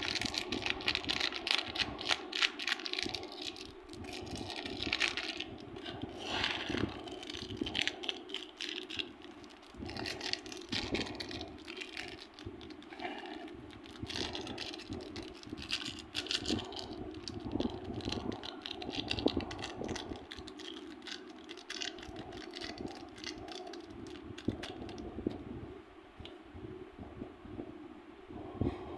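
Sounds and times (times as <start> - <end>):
hands squishing slime: 0.0 - 24.9.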